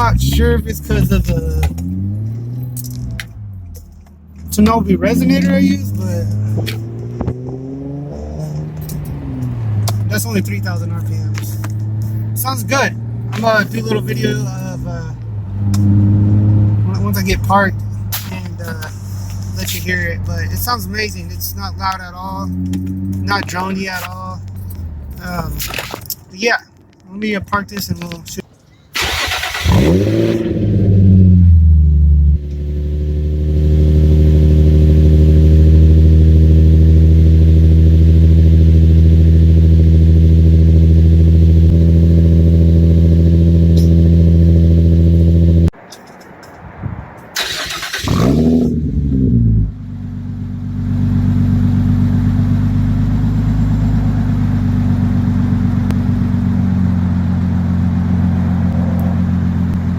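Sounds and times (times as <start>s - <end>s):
car engine revving and idling: 0.0s - 26.2s, 29.0s - 59.9s.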